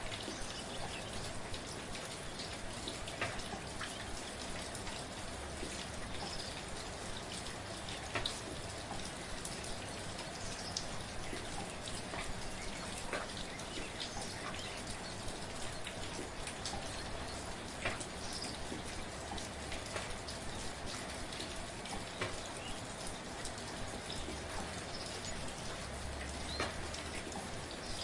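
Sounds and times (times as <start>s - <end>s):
gentle rain falling: 0.0s - 28.0s
drops ticking on a surface: 0.1s - 28.0s.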